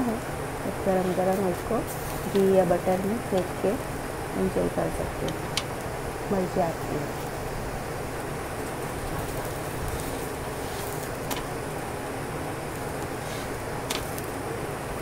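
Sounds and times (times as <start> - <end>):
steady rumbling hiss: 0.0 - 15.0.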